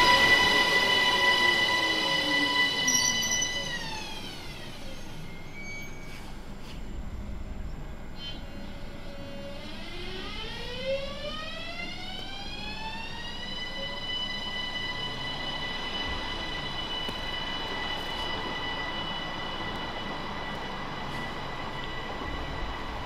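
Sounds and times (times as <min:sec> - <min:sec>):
electric train inverter whine: 0:00.0 - 0:23.0.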